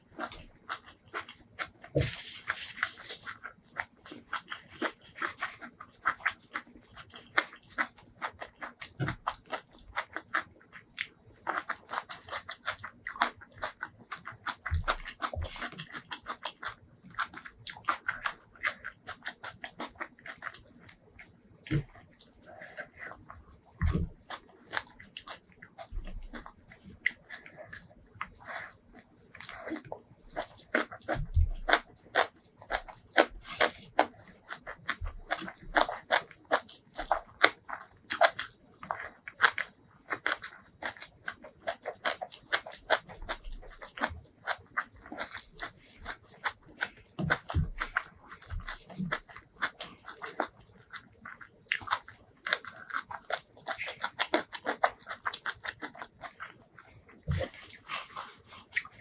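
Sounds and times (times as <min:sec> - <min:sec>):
person chewing and lip-smacking: 0:00.0 - 0:59.0.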